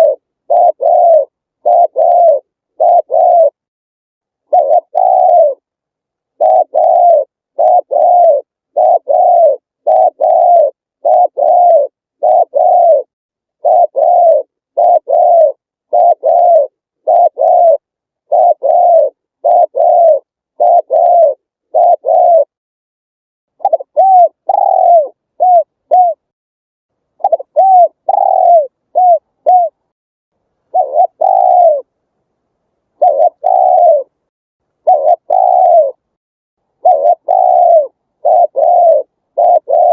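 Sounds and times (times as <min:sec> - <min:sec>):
dove cooing: 0:00.0 - 0:03.6, 0:04.5 - 0:05.6, 0:06.3 - 0:22.6, 0:23.6 - 0:26.3, 0:27.2 - 0:29.8, 0:30.7 - 0:31.9, 0:33.0 - 0:34.2, 0:34.8 - 0:36.0, 0:36.8 - 0:39.9.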